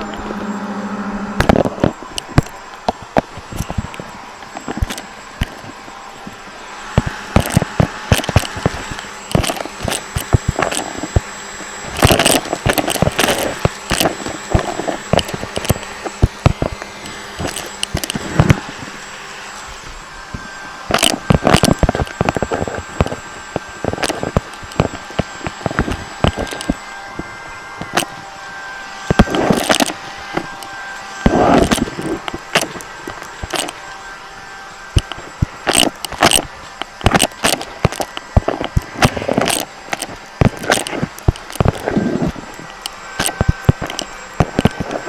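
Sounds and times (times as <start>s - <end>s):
steady background hum: 0.0s - 45.0s
clicking and clattering: 1.4s - 19.0s, 20.3s - 28.2s, 29.0s - 33.9s, 34.9s - 45.0s.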